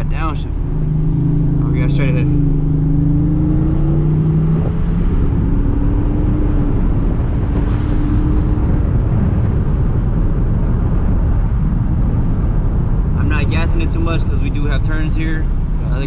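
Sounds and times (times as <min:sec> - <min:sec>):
truck engine accelerating: 0:00.0 - 0:16.0
tyre and road rumble: 0:00.0 - 0:16.0.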